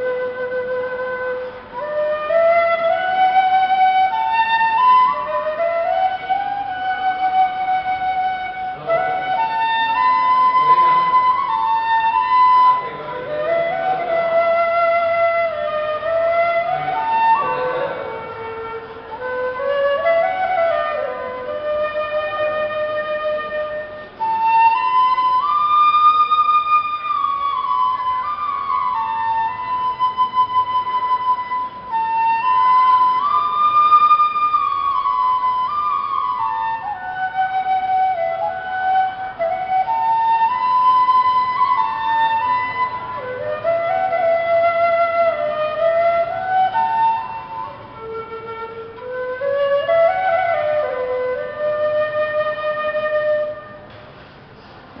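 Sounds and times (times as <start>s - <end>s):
bamboo flute melody: 0.0s - 54.0s.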